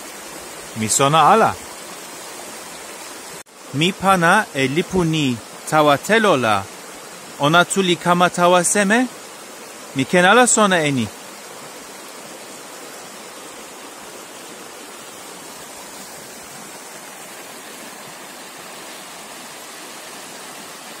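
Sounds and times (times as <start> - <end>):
stream flowing over stones: 0.0 - 21.0.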